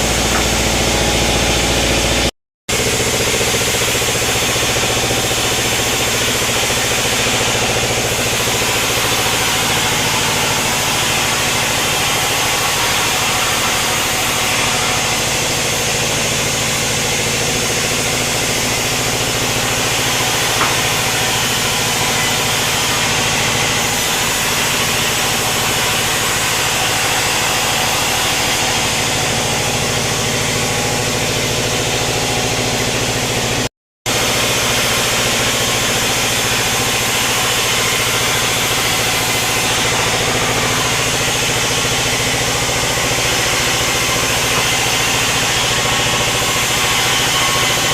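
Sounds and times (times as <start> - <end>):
sawmill machinery hum and hiss: 0.0 - 47.9.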